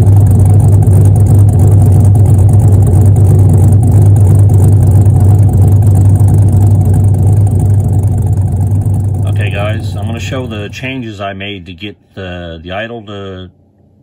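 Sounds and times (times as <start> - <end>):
car exhaust idling: 0.0 - 11.2.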